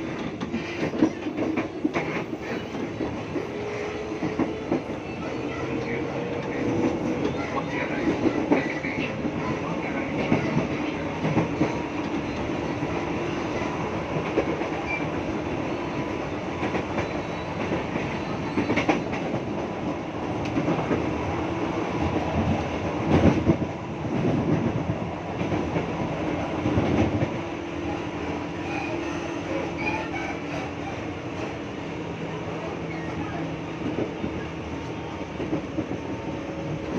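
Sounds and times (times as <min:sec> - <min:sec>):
train rumble inside carriage: 0:00.0 - 0:36.9.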